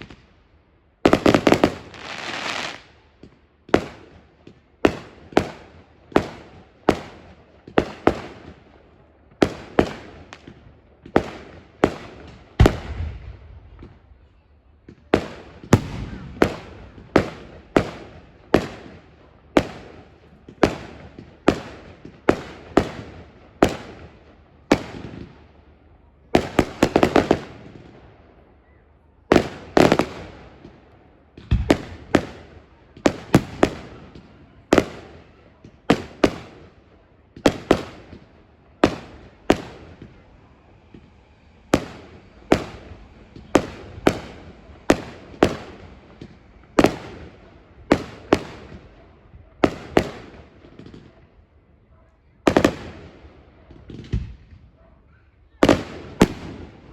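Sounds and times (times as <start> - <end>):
fireworks bangs: 1.0 - 25.5, 26.3 - 28.1, 29.3 - 51.3, 52.4 - 54.8, 55.6 - 56.9.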